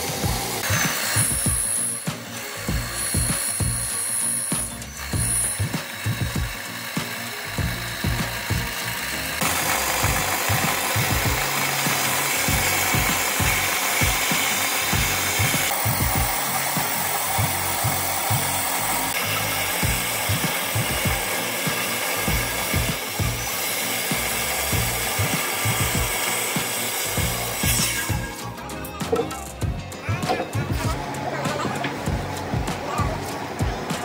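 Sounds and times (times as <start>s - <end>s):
power tool rushing noise: 0.0s - 29.6s.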